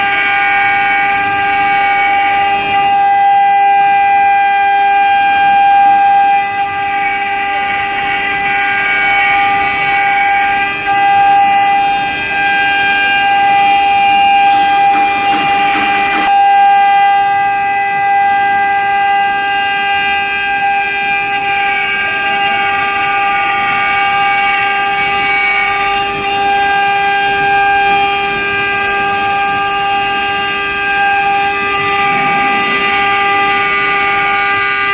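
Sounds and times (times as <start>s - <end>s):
engraving machine spindles whining: 0.0s - 34.9s.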